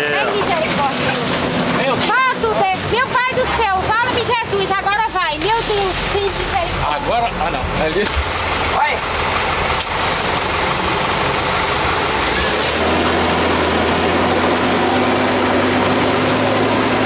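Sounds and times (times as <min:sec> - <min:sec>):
heavy truck engine under load: 0:00.0 - 0:17.0.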